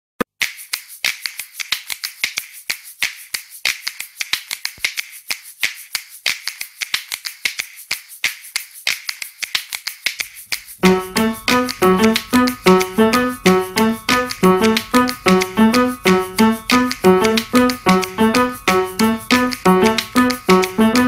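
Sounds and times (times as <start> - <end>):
rapid sharp dry clicks: 0.6 - 21.0.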